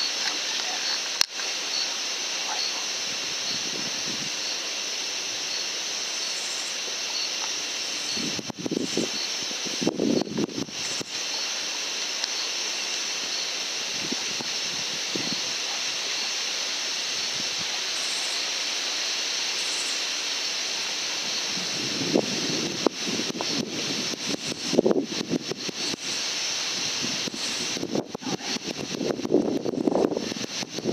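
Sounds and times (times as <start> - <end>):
night insects chorus: 0.0 - 30.9.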